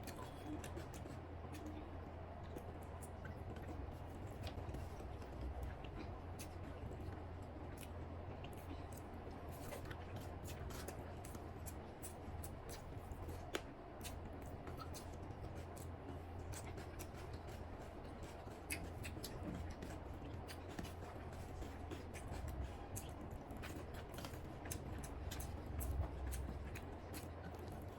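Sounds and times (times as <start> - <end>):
chewing and eating clicks: 0.0 - 1.8, 2.4 - 27.9
steady low hum: 0.0 - 27.9.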